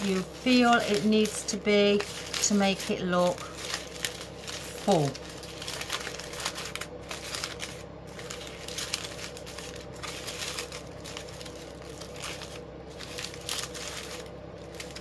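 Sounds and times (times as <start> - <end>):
ribbon crinkling and rustling: 0.0 - 15.0.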